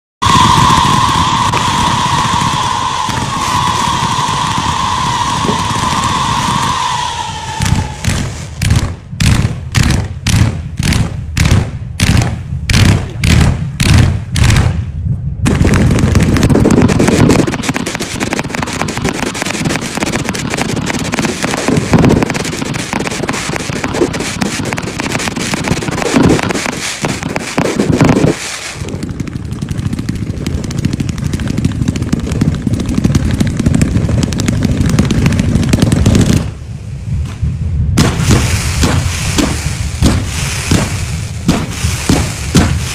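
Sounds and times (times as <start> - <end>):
fireworks bangs and crackling: 0.2 - 42.9
heavy fireworks booms: 0.2 - 42.9.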